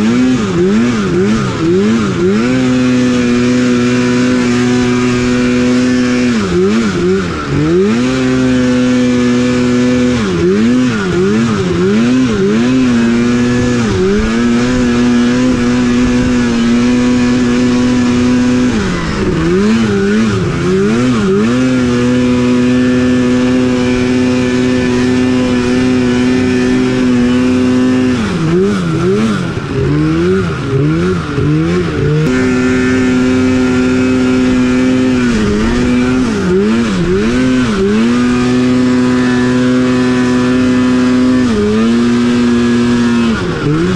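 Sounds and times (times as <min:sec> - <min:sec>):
snowmobile engine running hard: 0:00.0 - 0:43.9.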